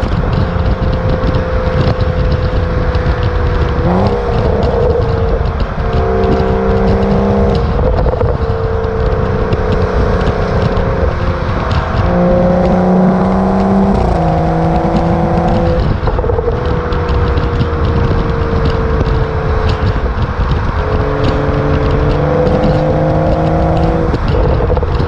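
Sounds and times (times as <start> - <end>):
car engine driving under power: 0.0 - 25.0
exhaust crackles: 0.0 - 25.0.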